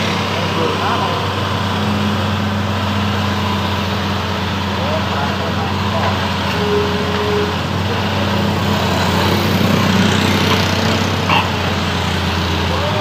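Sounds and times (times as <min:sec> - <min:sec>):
engine idling: 0:00.0 - 0:13.0
motorbikes passing: 0:00.0 - 0:13.0.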